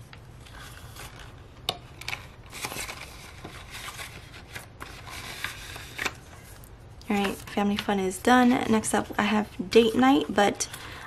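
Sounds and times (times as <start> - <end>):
banknotes rustling and sliding: 0.0 - 11.0.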